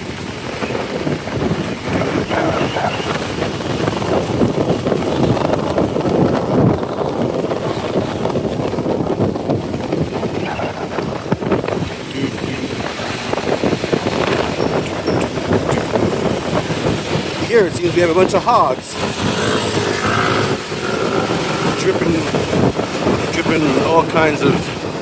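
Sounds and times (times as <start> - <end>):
motorcycle engine: 0.0 - 17.5, 18.4 - 25.0
street traffic: 0.0 - 25.0
wind buffeting microphone: 0.0 - 25.0.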